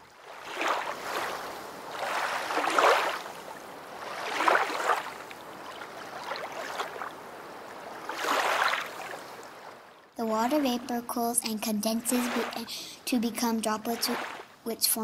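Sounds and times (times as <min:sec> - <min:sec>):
water washing like small waves: 0:00.0 - 0:14.7.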